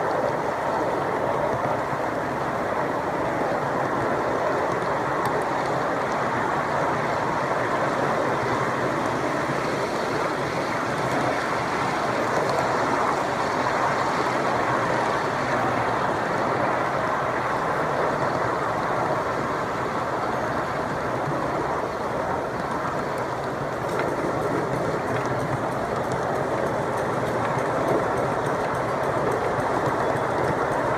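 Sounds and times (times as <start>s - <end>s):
train wheels running on rails: 0.0s - 30.9s.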